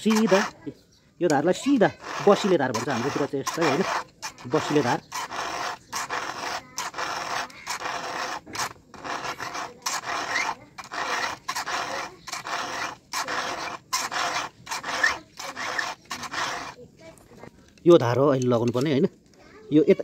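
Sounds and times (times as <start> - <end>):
file rasping on chainsaw chain: 0.0 - 17.5.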